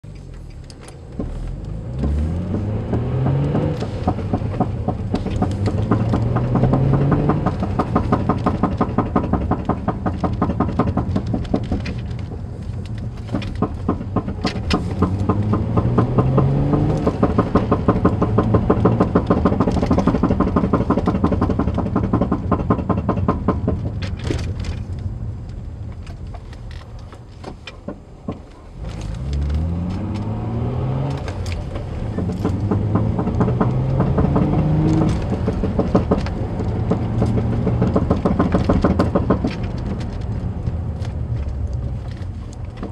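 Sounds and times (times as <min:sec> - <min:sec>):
car engine revving through gears: 0:00.0 - 0:42.9
fast continuous rattle: 0:03.5 - 0:30.2, 0:31.2 - 0:42.9.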